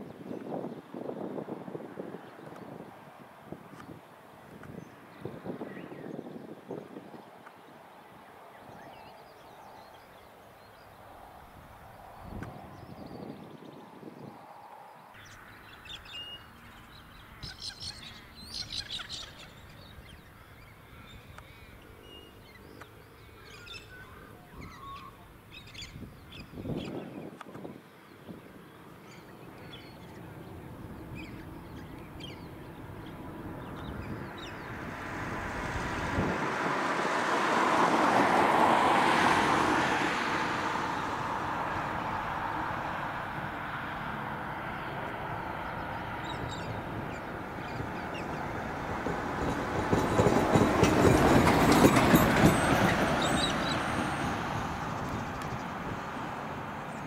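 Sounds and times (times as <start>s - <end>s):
vehicles passing by: 0.0s - 57.0s.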